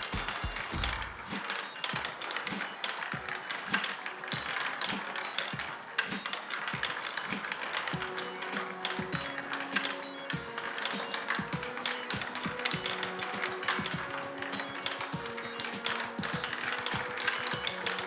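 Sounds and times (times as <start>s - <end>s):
marbles clicking on wooden tracks: 0.0s - 18.0s.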